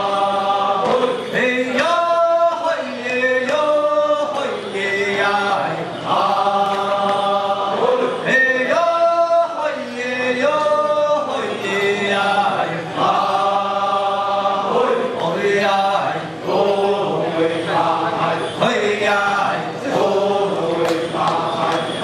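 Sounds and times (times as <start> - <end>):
men's group chanting: 0.0 - 22.0.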